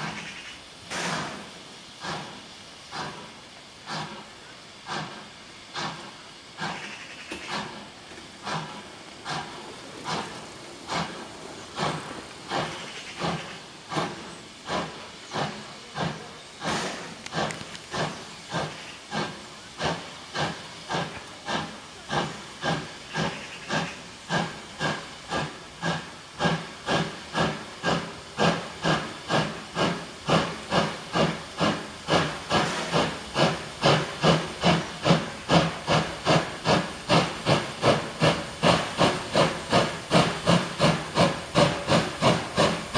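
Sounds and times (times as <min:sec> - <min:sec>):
steam hissing: 0:00.0 - 0:42.9
steam locomotive exhaust chuffs: 0:00.0 - 0:42.9.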